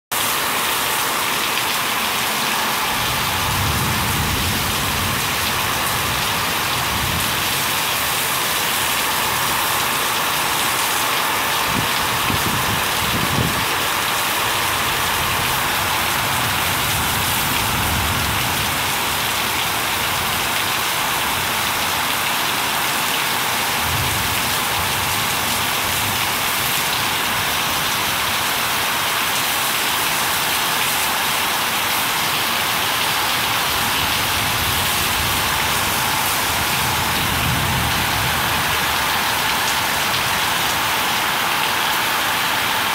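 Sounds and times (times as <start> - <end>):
heavy rain on pavement: 0.1 - 42.9.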